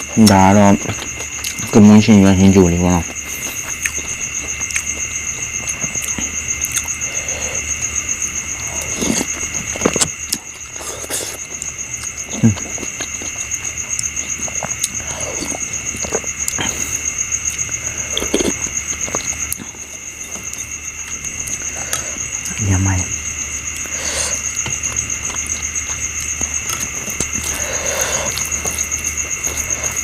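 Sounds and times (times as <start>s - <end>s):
close-up chewing: 0.0s - 30.0s
insects trilling: 0.0s - 30.0s
sharp eating clicks: 0.0s - 30.0s.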